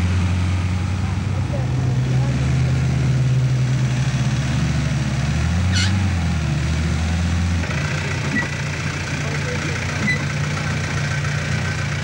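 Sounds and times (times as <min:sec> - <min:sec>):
off-road vehicle engine at low revs: 0:00.0 - 0:12.0.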